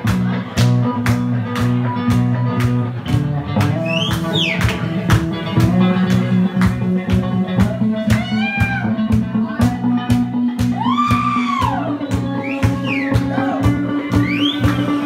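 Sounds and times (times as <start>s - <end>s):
drum kit steady beat: 0.0s - 15.0s
electric guitar: 0.0s - 15.0s.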